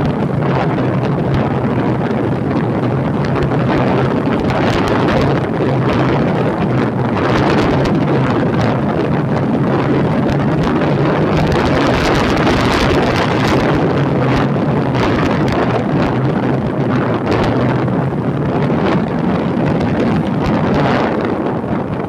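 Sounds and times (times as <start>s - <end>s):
motorcycle engine hum: 0.0s - 22.0s
wind buffeting microphone: 0.0s - 22.0s.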